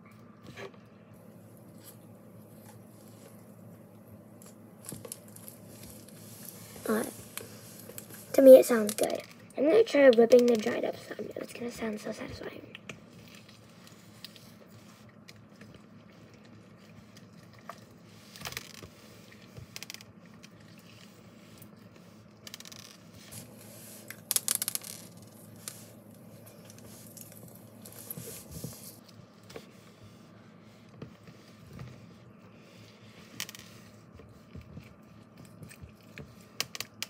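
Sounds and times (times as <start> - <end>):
dry slime crackling and squishing: 1.6 - 37.0.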